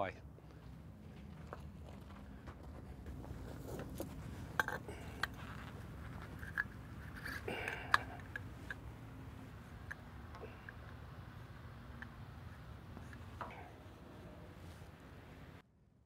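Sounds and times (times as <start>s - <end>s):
low steady hum: 0.0s - 15.7s.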